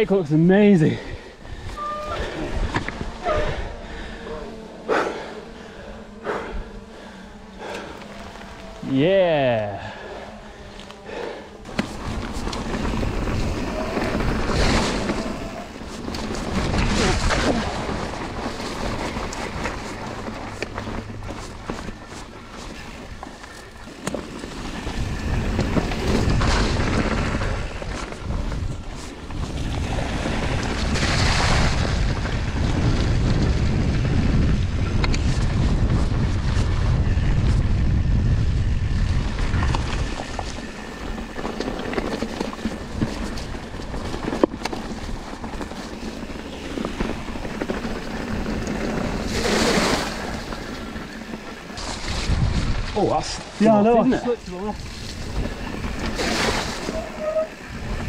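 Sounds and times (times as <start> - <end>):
tyres rumbling on rough trail: 0.0 - 58.0
wind buffeting microphone: 9.6 - 58.0.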